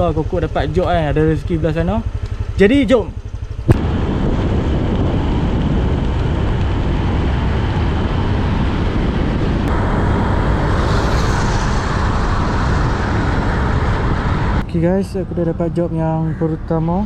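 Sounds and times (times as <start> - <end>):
motorcycle engine: 0.0 - 15.5
road noise: 0.0 - 17.0
wind rushing over microphone: 2.1 - 15.8.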